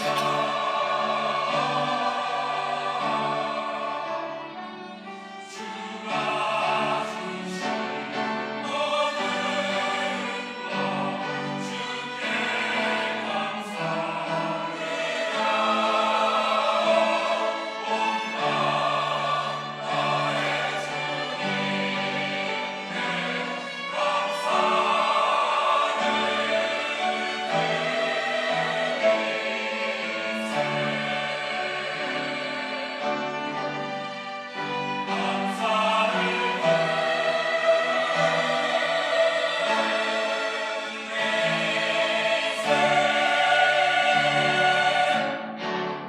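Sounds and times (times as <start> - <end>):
church choir singing: 0.0 - 46.0.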